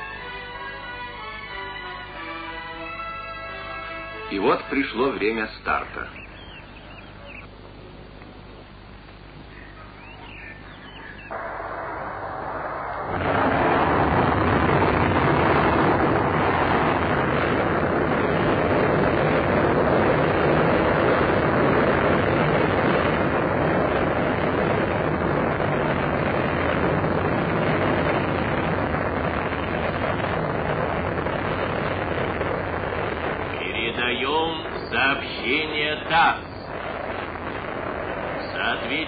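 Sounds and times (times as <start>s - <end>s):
rocket engines roaring: 0.0s - 39.0s.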